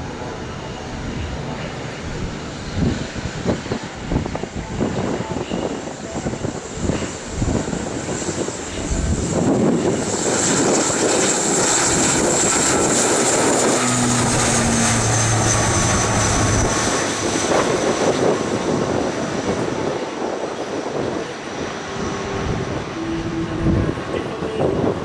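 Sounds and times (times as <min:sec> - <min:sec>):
aircraft engines whining: 0:00.0 - 0:25.0.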